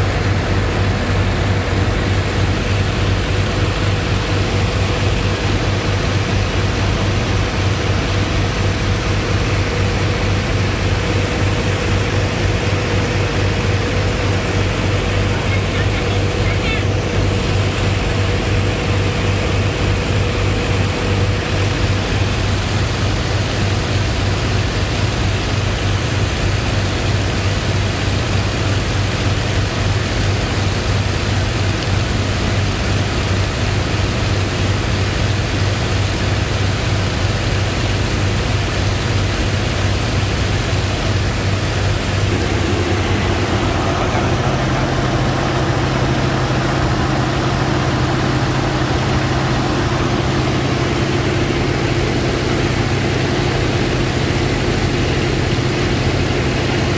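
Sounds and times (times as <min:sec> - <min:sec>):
boat engine humming: 0:00.0 - 0:56.9.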